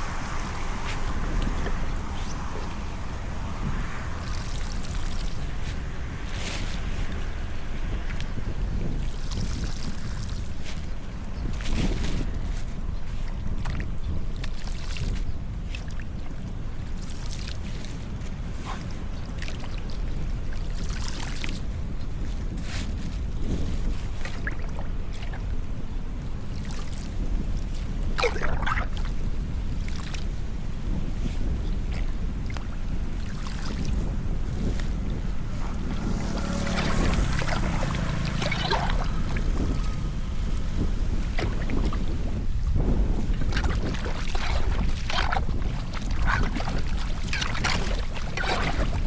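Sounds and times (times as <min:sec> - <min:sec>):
floodwater splashing and pouring: 0:00.0 - 0:49.0
wind rumble on microphone: 0:00.0 - 0:49.0.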